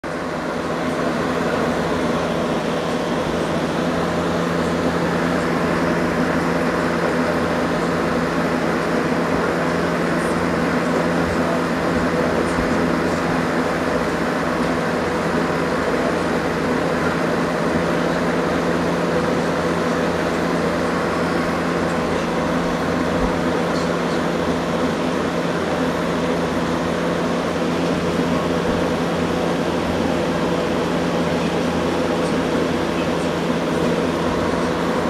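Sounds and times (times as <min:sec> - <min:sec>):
mechanical hum with hiss: 0:00.0 - 0:35.0.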